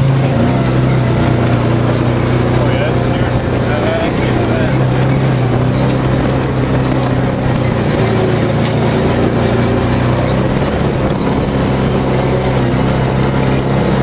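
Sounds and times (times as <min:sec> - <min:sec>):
engine running steadily: 0:00.0 - 0:14.0
wind rush and trail noise: 0:00.0 - 0:14.0.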